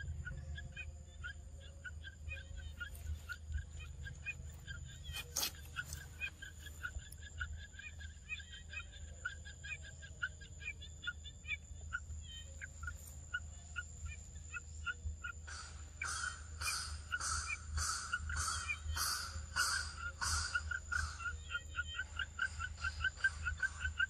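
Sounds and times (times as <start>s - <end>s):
birds calling with repeated notes: 0.0s - 24.0s
harsh bird calls: 0.0s - 24.0s.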